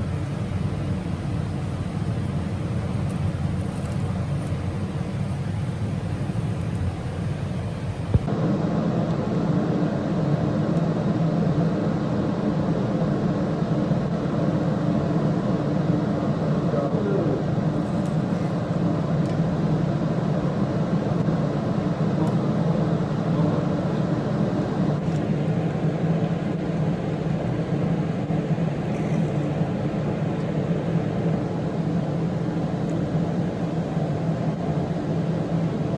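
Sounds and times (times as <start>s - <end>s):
low mechanical hum: 0.0s - 35.9s.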